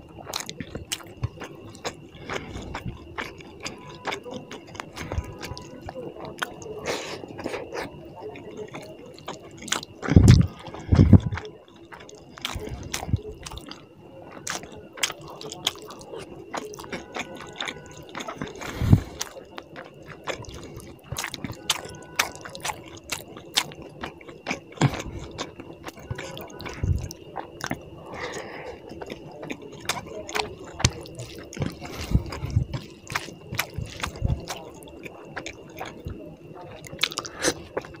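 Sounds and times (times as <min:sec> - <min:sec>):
chewing and lip smacks: 0:00.0 - 0:38.0
fingers squishing rice and curry: 0:00.0 - 0:38.0.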